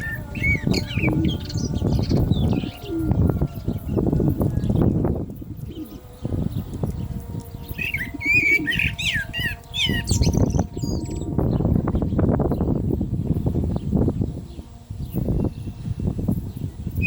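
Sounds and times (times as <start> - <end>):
blackbird singing: 0.0 - 17.0
low rumble: 0.0 - 17.0.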